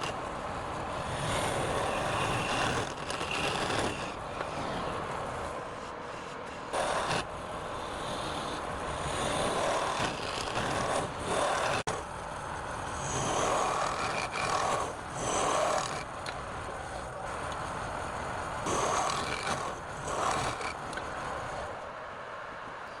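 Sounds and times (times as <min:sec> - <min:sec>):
turning tool cutting wood: 0:00.0 - 0:00.3, 0:01.0 - 0:21.8
wood lathe running: 0:01.0 - 0:21.8.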